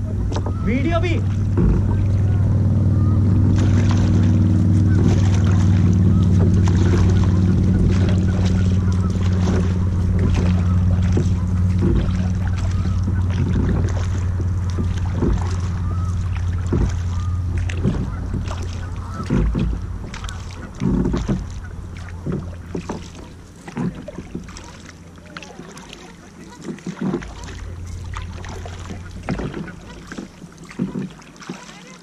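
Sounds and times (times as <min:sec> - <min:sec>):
steady low hum: 0:00.0 - 0:31.2
kayak paddle splashing: 0:00.0 - 0:32.0.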